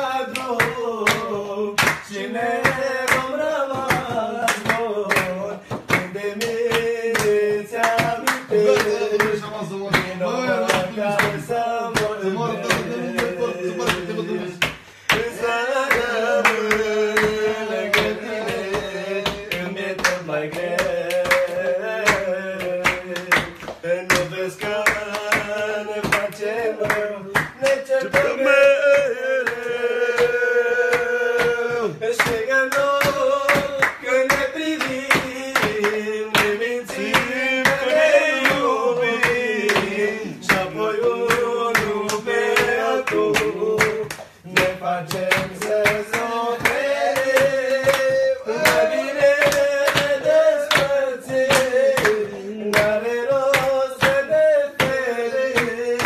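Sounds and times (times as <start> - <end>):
men singing together: 0.0 - 56.0
rhythmic hand clapping: 0.0 - 56.0.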